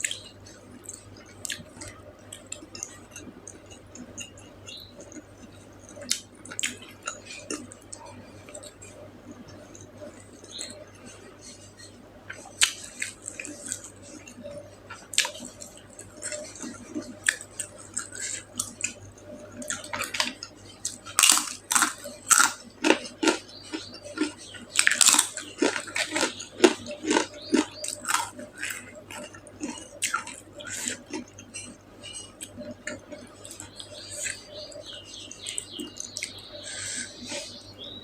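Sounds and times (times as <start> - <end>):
person chewing and eating: 0.0 - 37.9.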